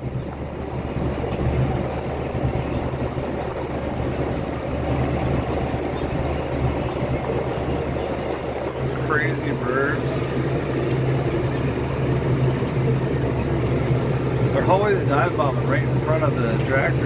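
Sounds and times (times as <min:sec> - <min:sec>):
tractor engine humming: 0:00.0 - 0:17.0.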